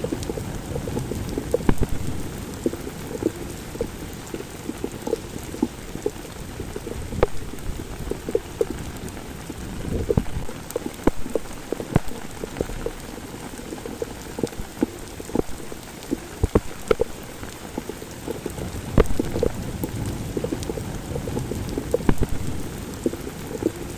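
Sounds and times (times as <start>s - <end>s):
heavy rain hissing: 0.0s - 23.9s
raindrops hitting close by: 0.0s - 23.9s.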